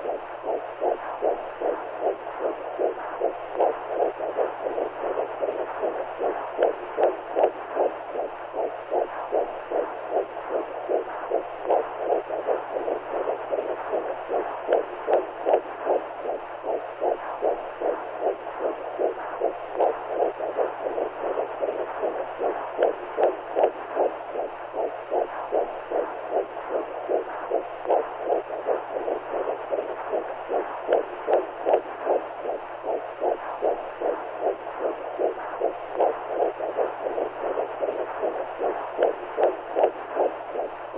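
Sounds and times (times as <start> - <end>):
muffled heartbeat-like whooshing: 0.0 - 40.9
steady low hum: 0.0 - 40.9.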